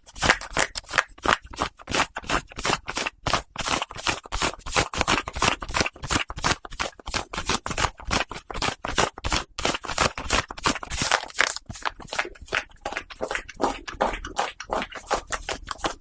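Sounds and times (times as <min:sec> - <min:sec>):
scratching on hat fabric: 0:00.0 - 0:16.0.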